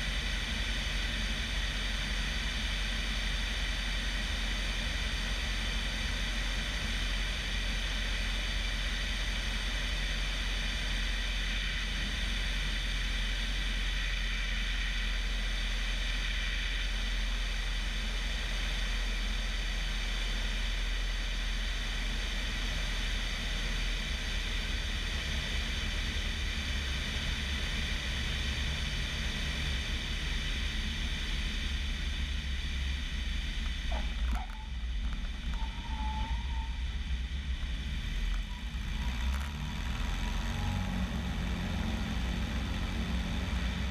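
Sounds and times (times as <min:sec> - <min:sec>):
light aircraft engine and propeller: 0:00.0 - 0:43.9.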